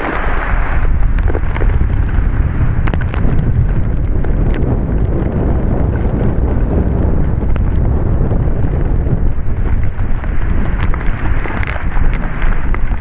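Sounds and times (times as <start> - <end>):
rain hissing: 0.0 - 13.0
wind gusts buffeting microphone: 0.0 - 13.0.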